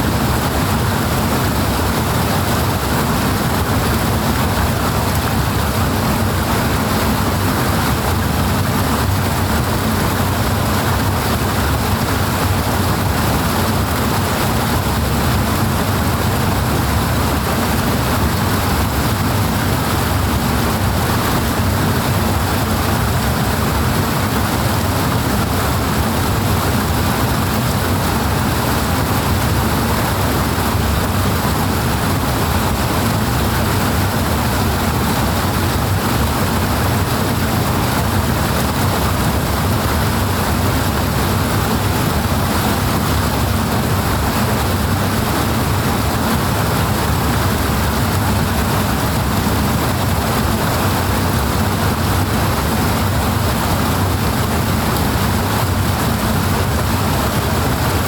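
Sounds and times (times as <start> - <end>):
flowing water roar: 0.0 - 58.0.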